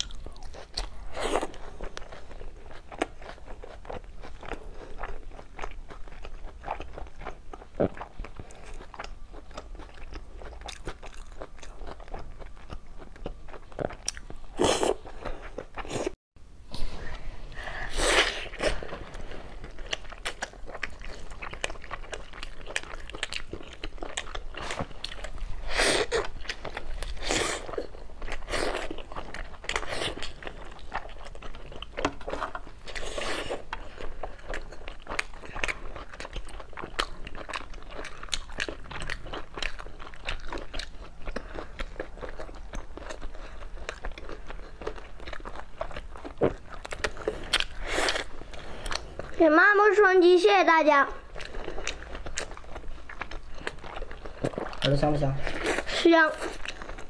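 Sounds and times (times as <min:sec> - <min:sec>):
biting and chewing meat: 0:00.0 - 0:16.2, 0:18.4 - 0:50.0, 0:51.2 - 0:57.0.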